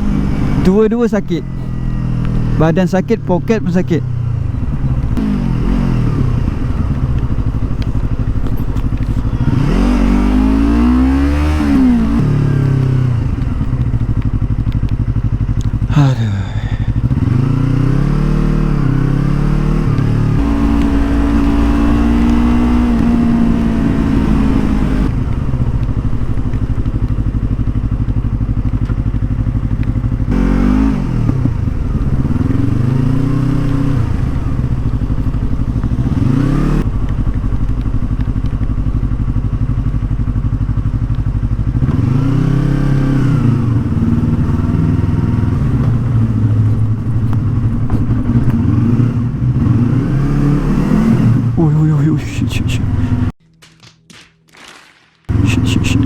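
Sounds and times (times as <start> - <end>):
motorcycle engine revving: 0.0 - 53.4, 55.3 - 56.0.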